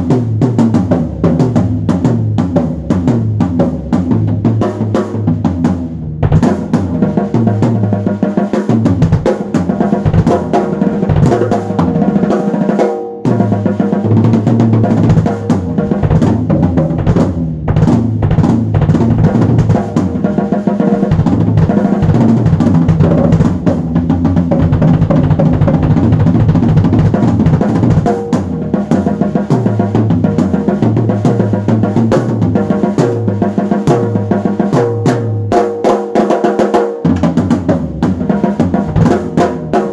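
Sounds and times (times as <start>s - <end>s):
bass line: 0.0s - 12.2s, 13.2s - 35.6s, 37.1s - 39.9s
drum kit playing: 0.0s - 39.9s.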